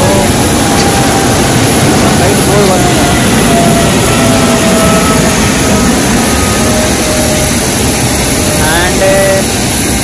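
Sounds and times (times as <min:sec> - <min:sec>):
jet engine noise with whine: 0:00.0 - 0:10.0.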